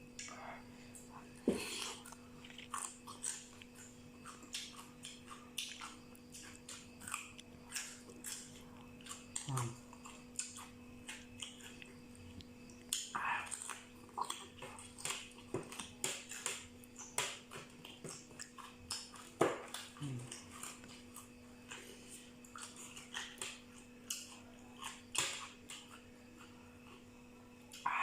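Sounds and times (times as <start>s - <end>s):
faint steady hum: 0.0s - 28.0s
wet chewing mouth sounds: 0.1s - 27.1s.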